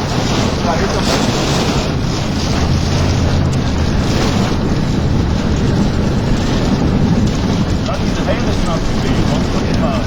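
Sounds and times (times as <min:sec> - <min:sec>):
rain and hail on vehicle: 0:00.0 - 0:10.0
wind rushing: 0:00.0 - 0:10.0.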